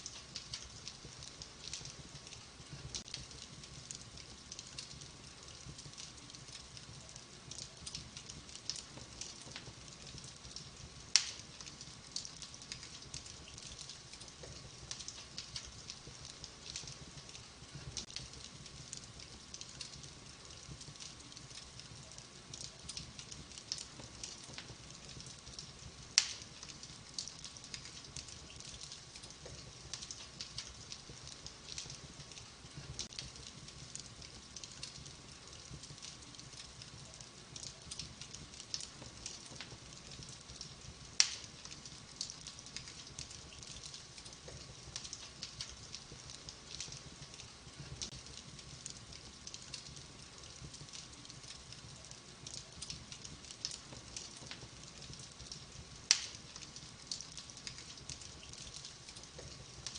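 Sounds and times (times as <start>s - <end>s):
fireplace fire crackling: 0.0s - 59.9s
loud fire pops: 0.0s - 59.9s.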